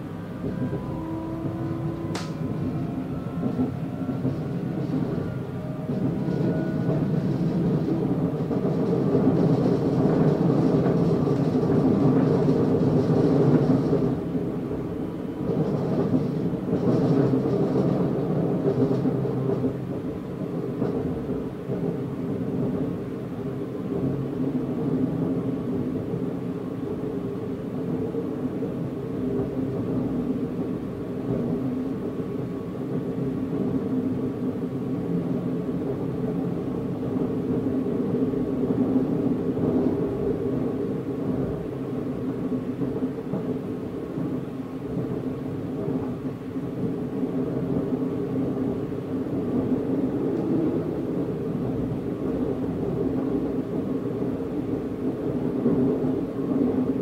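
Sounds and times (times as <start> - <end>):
train rumbling from inside carriage: 0.0 - 57.0.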